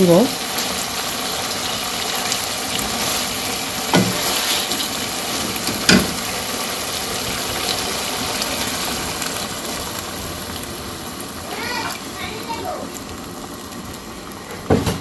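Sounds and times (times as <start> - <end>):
fish sizzling in a pan: 0.0 - 15.0.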